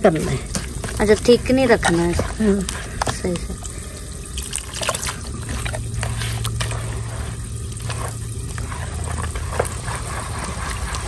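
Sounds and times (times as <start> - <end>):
hand squishing wet batter: 0.0 - 11.0
low hum: 0.0 - 11.0.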